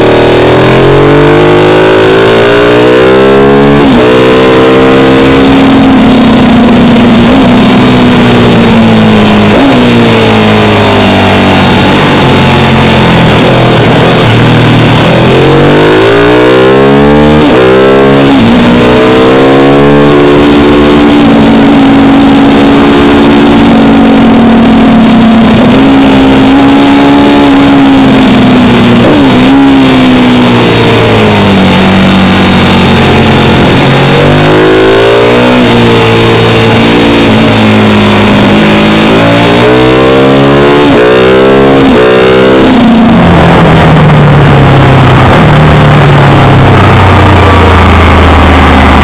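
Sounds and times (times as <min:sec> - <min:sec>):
race car engine revving: 0:00.0 - 0:49.0
wind roar: 0:00.0 - 0:49.0.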